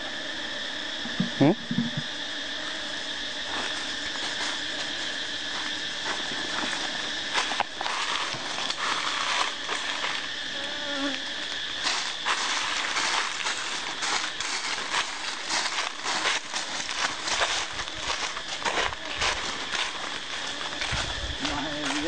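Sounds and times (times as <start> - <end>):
bees buzzing: 0.0 - 22.0
dry leaves crackling: 3.4 - 10.5, 11.3 - 22.0
footsteps: 3.4 - 22.0.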